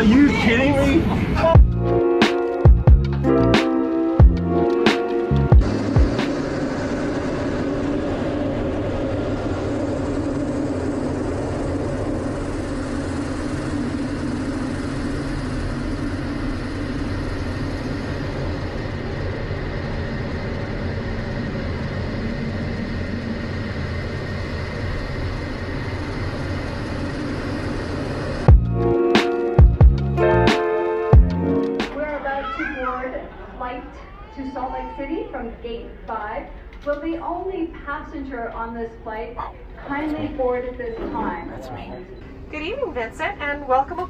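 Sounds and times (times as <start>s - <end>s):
steady engine drone: 0.0s - 32.2s, 39.3s - 44.0s.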